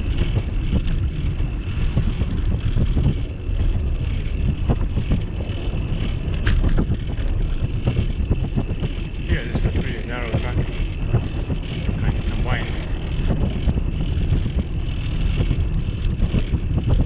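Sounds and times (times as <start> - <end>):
bicycle rolling rumble: 0.0 - 17.0
bike knocking on path: 0.0 - 17.0
wind buffeting microphone: 0.0 - 17.0.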